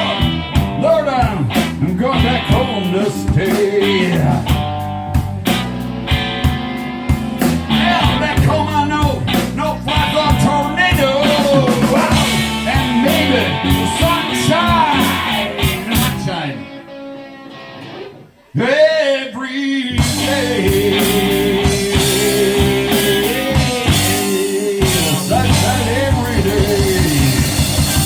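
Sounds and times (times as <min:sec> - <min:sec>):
electric guitar bending notes: 0:00.0 - 0:18.4, 0:19.9 - 0:28.0
live blues band: 0:00.0 - 0:18.8, 0:19.6 - 0:28.0.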